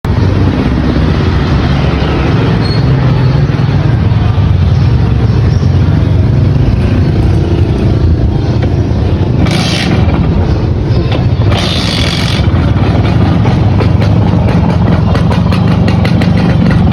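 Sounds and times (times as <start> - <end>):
two-stroke engine running: 0.1 - 16.9.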